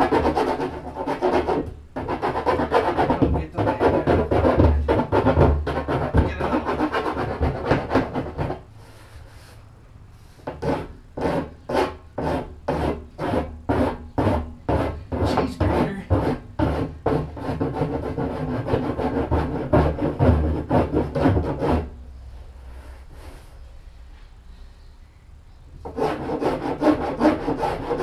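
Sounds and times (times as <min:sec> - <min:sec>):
rasp file scraping metal rim: 0:00.0 - 0:08.7, 0:10.4 - 0:22.0, 0:25.8 - 0:28.0.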